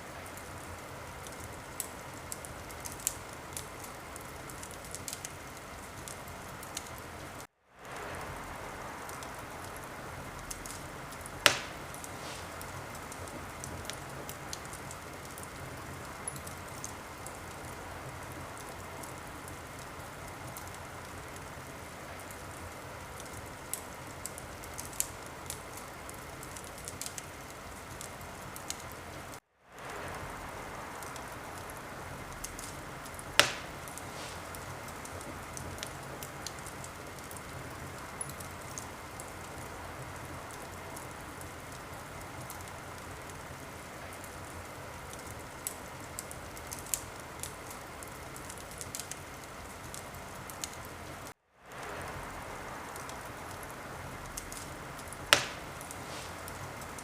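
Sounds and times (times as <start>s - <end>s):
fire crackling: 0.0s - 57.0s
fire popping: 0.0s - 57.0s.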